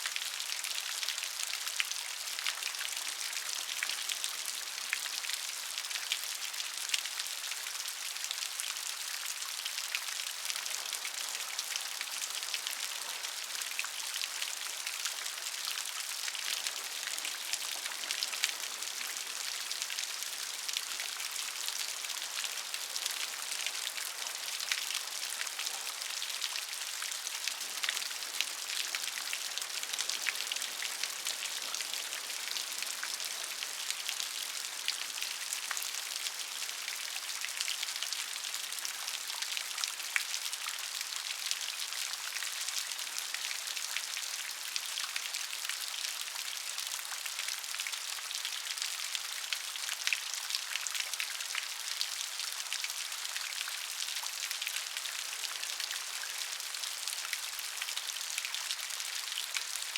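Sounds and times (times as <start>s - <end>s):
steady rain on hard surface: 0.0s - 59.9s.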